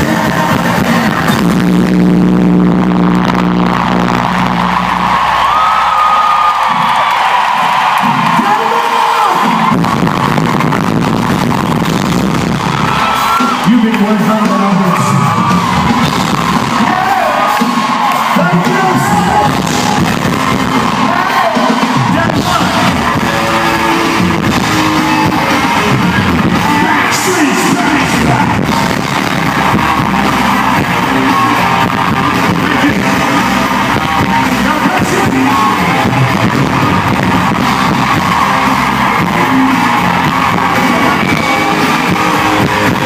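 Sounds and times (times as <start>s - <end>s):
live band and singing: 0.0s - 4.4s, 6.7s - 43.0s
crowd shouting: 3.4s - 43.0s.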